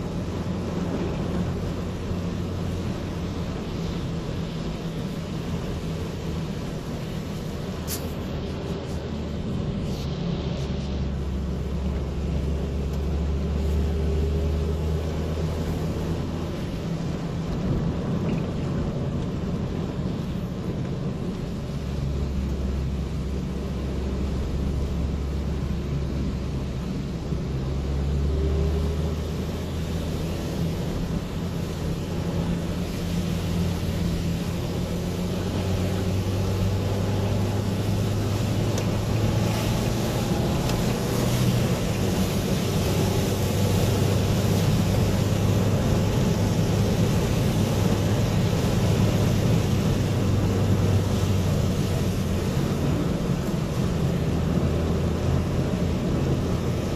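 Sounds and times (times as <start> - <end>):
car engine hum: 0.0 - 56.9
tyres hissing on wet road: 0.0 - 56.9.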